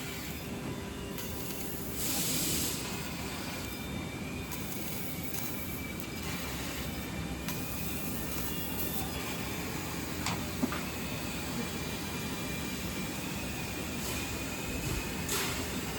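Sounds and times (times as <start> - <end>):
laser cutter hissing: 0.0 - 15.9.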